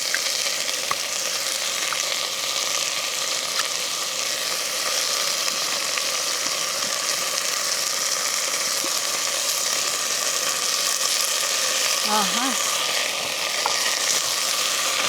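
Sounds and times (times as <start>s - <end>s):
garlic and onion sizzling in oil: 0.0s - 15.0s.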